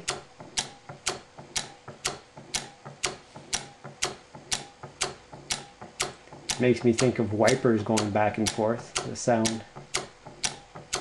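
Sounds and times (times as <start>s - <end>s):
magnet motor clicking: 0.0s - 11.0s.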